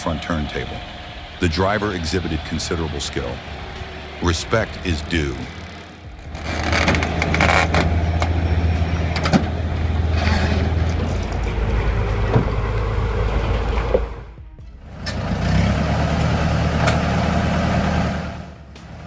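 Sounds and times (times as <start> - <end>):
knocks and clanks: 0.0 - 17.4
vehicle engine running: 0.0 - 19.0.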